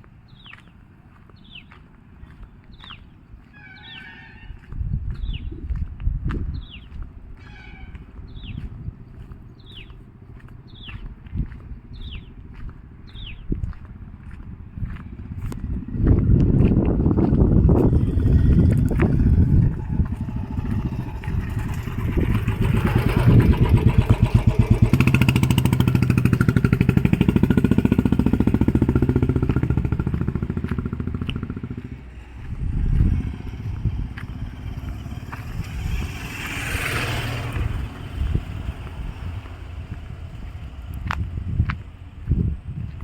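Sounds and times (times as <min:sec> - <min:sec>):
traffic noise: 0:00.0 - 0:43.0
vehicle engine running: 0:05.0 - 0:43.0.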